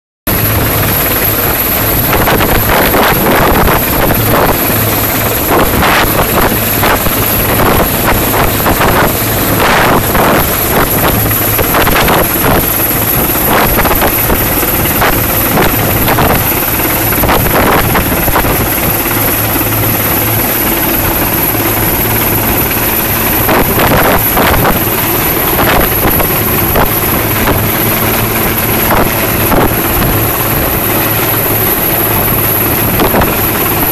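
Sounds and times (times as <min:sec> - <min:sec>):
helicopter hovering overhead: 0:00.3 - 0:33.9.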